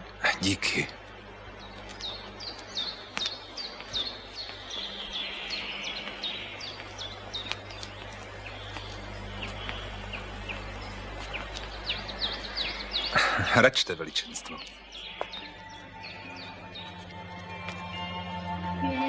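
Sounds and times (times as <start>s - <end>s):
bird chirping: 0.0s - 19.0s
faint hiss: 0.0s - 19.0s.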